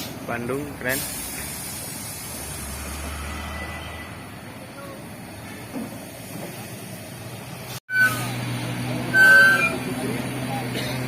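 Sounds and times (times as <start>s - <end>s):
heavy vehicle engine humming: 0.0s - 11.0s
road noise: 0.0s - 11.0s.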